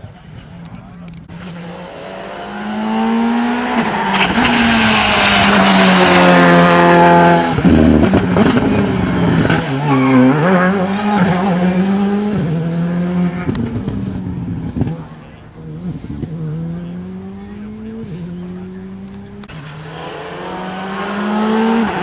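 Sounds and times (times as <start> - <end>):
rally car engine revving: 0.2 - 22.0.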